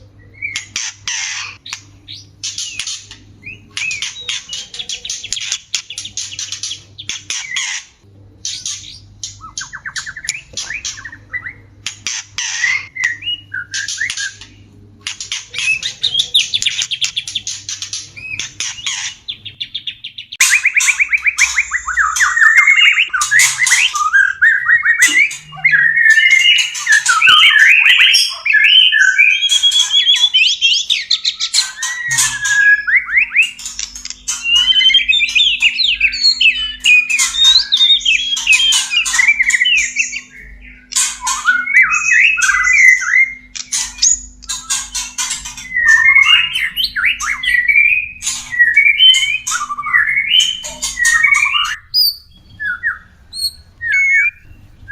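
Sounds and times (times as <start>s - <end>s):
bird whistled song: 0.0s - 14.6s, 15.3s - 54.9s
bird harsh scratchy chatter: 0.5s - 1.6s, 2.3s - 19.8s, 20.4s - 54.3s.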